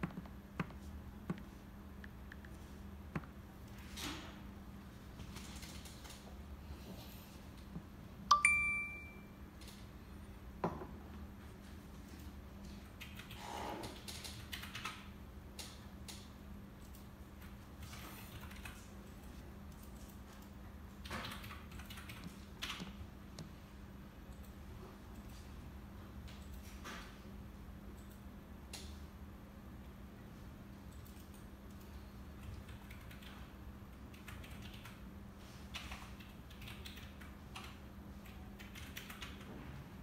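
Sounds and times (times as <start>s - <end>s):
faint electrical hum: 0.0s - 40.0s.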